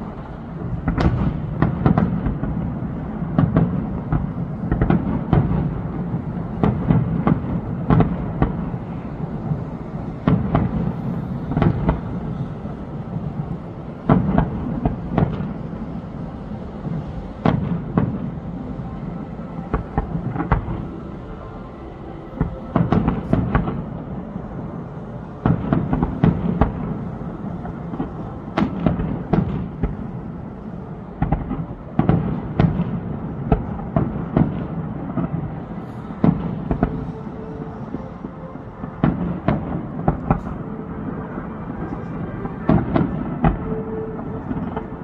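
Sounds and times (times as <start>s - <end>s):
fireworks bursting with sharp bangs: 0.0s - 45.0s
low rumble: 0.0s - 45.0s.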